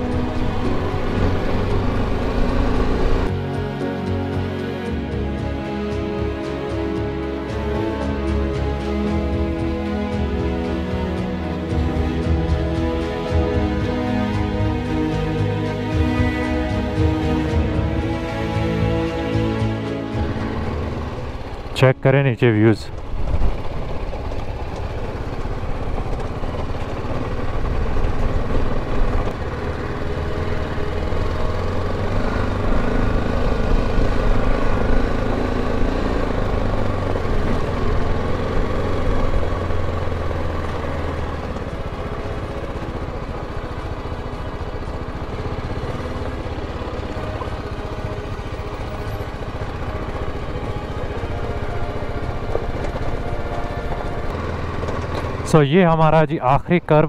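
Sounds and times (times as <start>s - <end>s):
motorcycle engine running: 0.0s - 56.2s.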